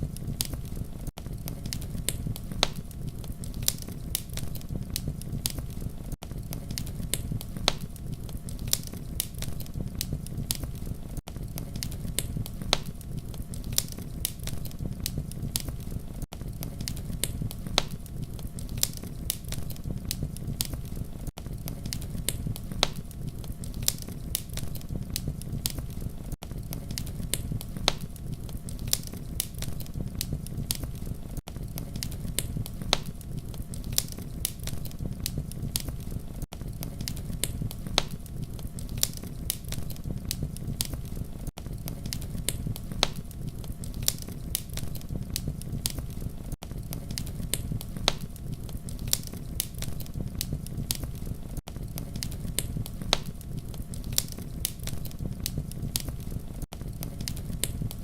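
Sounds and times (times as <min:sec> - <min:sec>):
fire pops and snaps: 0:00.0 - 0:58.0
low rumble of burning: 0:00.0 - 0:58.0.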